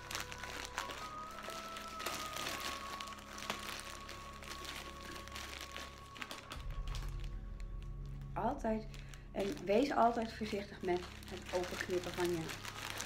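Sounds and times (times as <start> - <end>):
packaging crinkling: 0.0 - 13.0
soft background music: 0.0 - 13.0.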